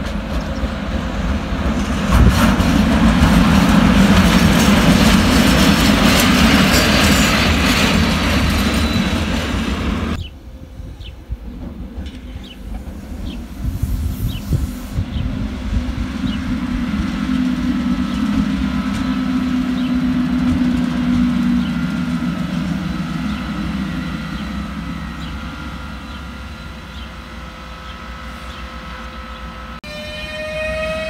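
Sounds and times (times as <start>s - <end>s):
electric locomotive hum: 0.0s - 31.0s.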